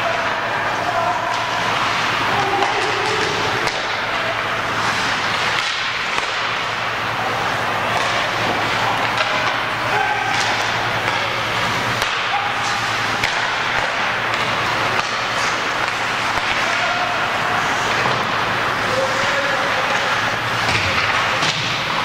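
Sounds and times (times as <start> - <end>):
distant shouts: 0.0 - 4.8, 7.0 - 14.2, 14.8 - 20.6
hockey sticks and puck clacking: 0.0 - 22.0.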